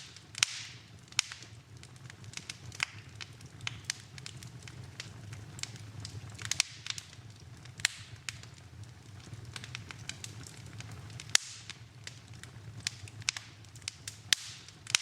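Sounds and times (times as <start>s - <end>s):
sharp pops of fire: 0.0s - 15.0s
wood fire crackling: 0.0s - 15.0s.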